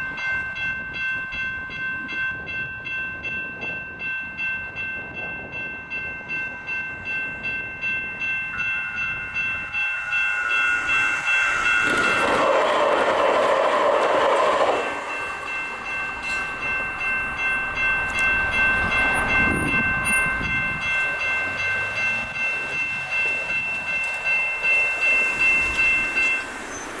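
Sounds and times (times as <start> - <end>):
railroad crossing bells ringing: 0.0 - 27.0
train passing: 0.0 - 27.0.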